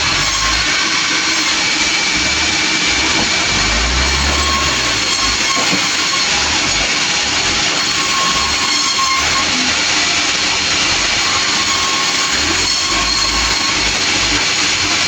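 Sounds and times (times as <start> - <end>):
sawmill saw running: 0.0 - 15.0.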